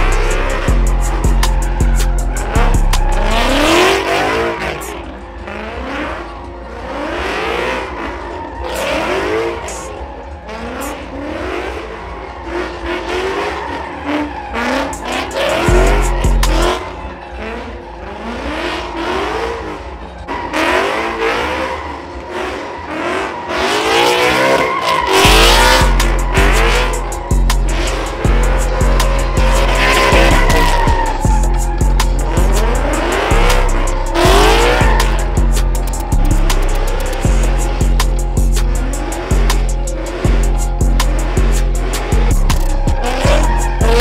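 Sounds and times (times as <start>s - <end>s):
car engine revving: 0.0s - 44.0s
tires squealing: 0.0s - 44.0s.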